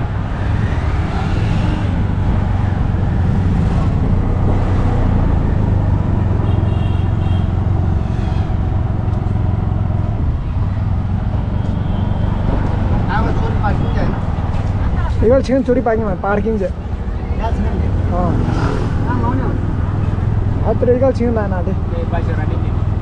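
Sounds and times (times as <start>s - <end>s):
auto-rickshaw engine hum: 0.0s - 23.0s
road noise: 0.0s - 23.0s.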